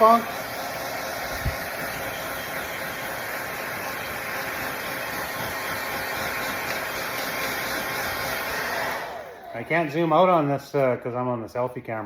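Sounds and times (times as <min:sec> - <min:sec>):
blow dryer running: 0:00.0 - 0:10.5.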